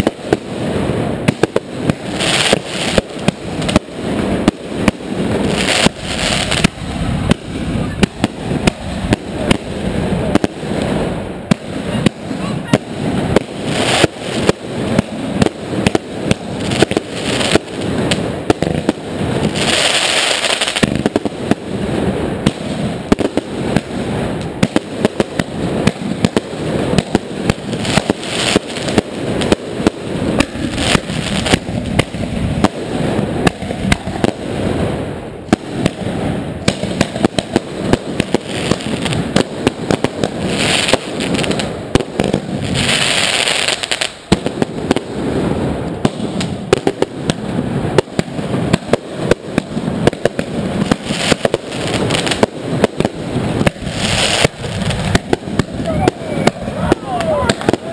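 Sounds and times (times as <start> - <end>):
firecracker bangs: 0.0 - 57.9
fireworks hissing: 0.0 - 57.9
rocket explosions: 0.0 - 57.9.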